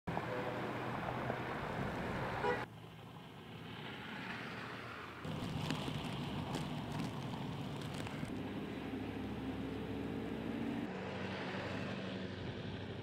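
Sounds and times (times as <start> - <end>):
passing road traffic: 0.1 - 13.0.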